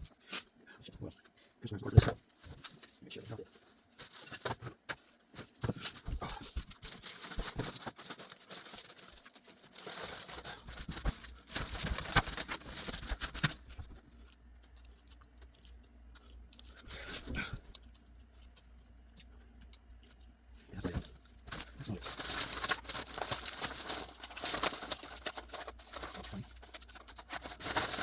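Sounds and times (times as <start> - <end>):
faint low hum: 0.0 - 28.0
plastic rustling and crinkling: 1.8 - 28.0.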